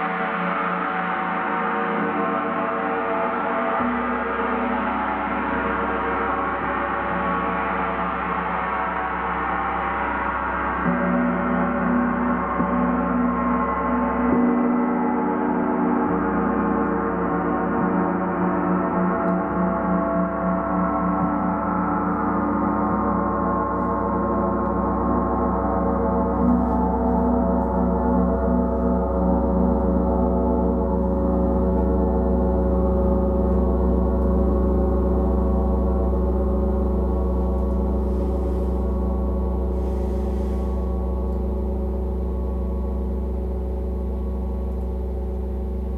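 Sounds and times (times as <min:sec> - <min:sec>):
deep hum: 0:00.0 - 0:45.9.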